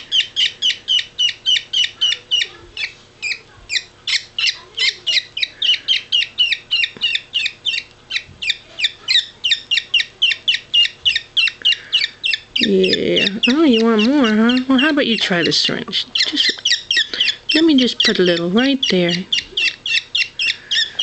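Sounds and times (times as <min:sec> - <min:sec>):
parakeet chick cheeping: 0:00.0 - 0:21.0.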